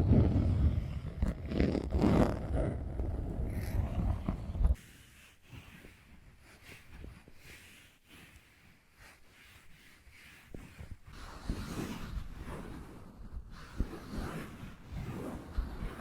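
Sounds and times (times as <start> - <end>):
fingers scratching a surface: 0.0 - 6.0, 6.6 - 16.0.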